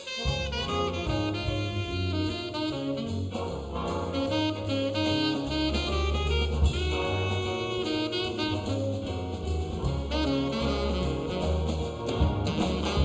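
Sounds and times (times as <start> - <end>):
big band playing swing: 0.0 - 13.0.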